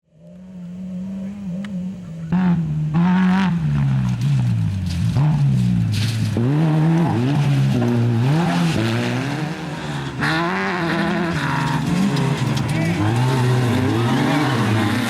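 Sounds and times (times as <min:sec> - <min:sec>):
engine revving: 0:00.2 - 0:15.0.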